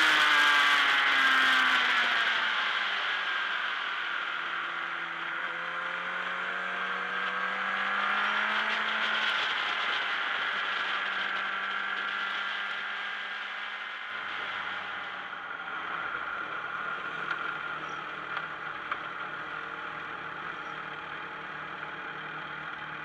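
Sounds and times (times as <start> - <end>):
racing motorcycle engine: 0.0 - 23.0.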